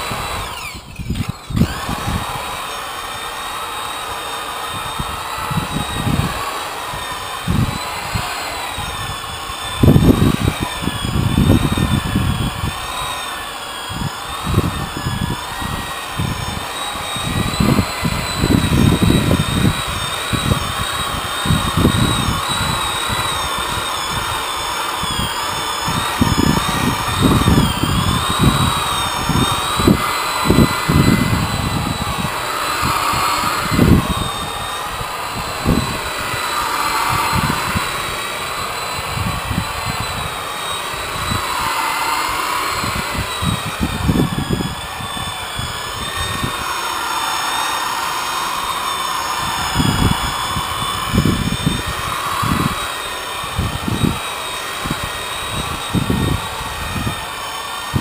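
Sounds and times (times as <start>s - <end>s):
rotary polisher whine: 0.0s - 58.0s.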